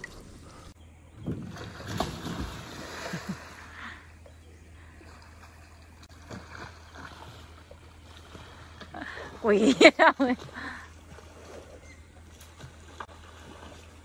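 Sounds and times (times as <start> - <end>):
low steady hum: 0.0 - 14.0
water splashing and sloshing: 0.0 - 14.0.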